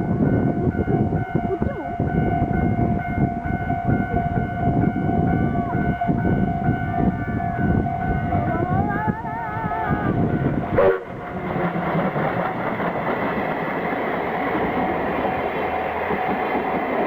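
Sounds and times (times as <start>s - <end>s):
crossing warning bell: 0.0s - 17.0s
train wheels rattling on rails: 0.0s - 17.0s.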